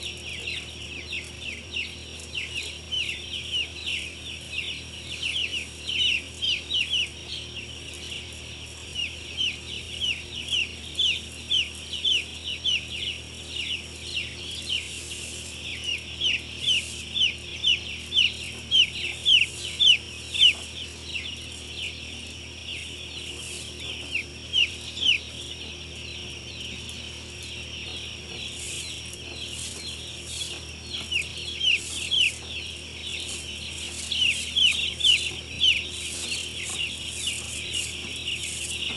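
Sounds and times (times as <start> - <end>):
chicks peeping: 0.0 - 38.9
faint low hum: 0.0 - 38.9.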